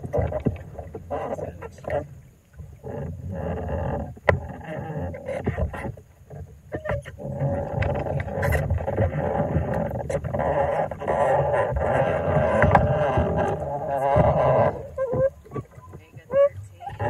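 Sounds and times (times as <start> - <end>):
pedal rig knocking and creaking: 0.0 - 17.0.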